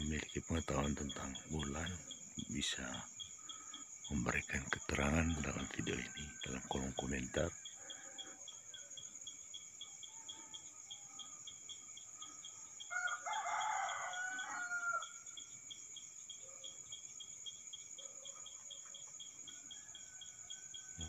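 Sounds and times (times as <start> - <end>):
crickets chirping: 0.0 - 21.0
high insect trill: 0.0 - 21.0.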